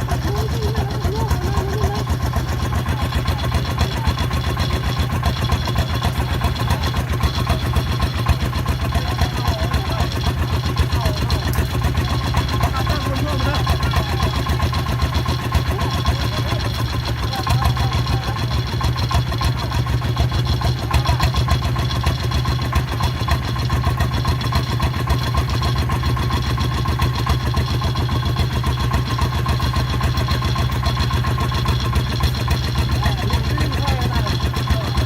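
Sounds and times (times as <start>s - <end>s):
diesel engine chugging: 0.0s - 35.0s.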